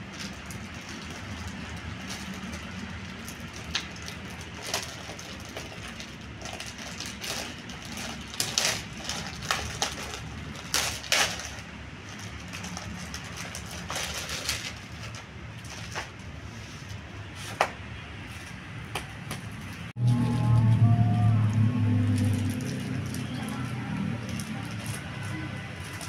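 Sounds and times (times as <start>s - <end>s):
packaging rustling and crinkling: 0.0s - 17.0s, 22.1s - 26.0s.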